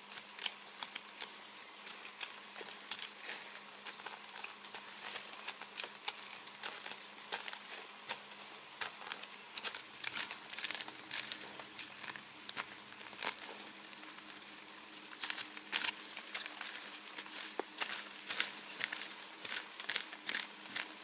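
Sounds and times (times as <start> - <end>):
rustling and crackling: 0.0 - 21.0.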